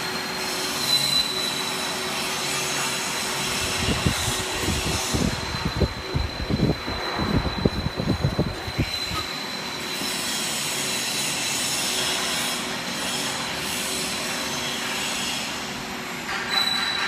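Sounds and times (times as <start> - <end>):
welding machine hissing: 0.0 - 16.8
thin high whine: 0.0 - 17.0.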